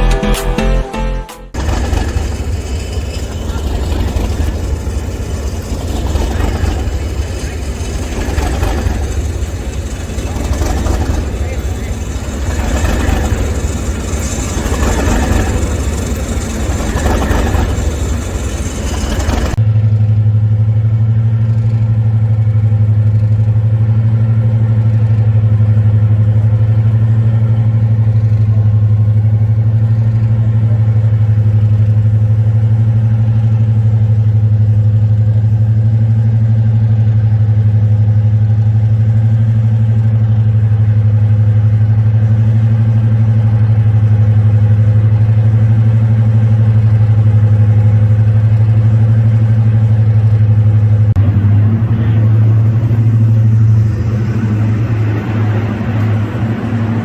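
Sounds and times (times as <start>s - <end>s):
diesel locomotive engine idling: 0.0s - 57.0s.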